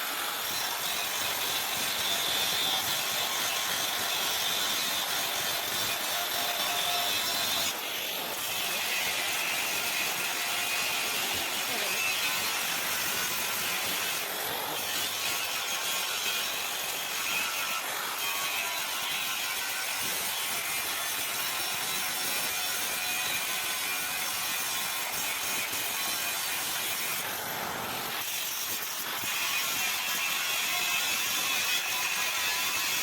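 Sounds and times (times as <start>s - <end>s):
rasping hissing metalworking: 0.0s - 33.0s.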